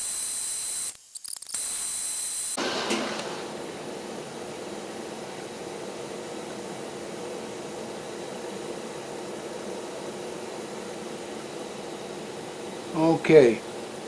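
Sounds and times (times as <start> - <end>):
motor humming: 1.6 - 14.0.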